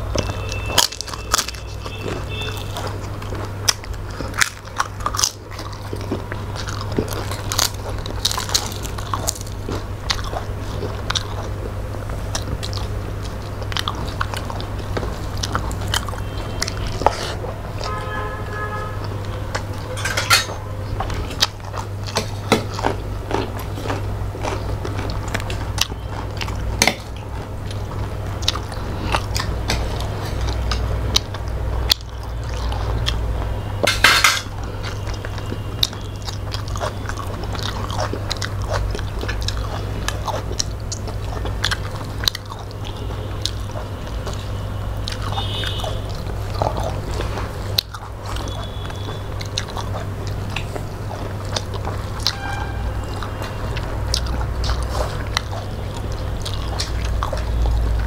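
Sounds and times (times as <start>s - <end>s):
food crunching: 0.0s - 58.0s
steady low hum: 0.0s - 58.0s
wet chewing and biting: 0.0s - 58.0s.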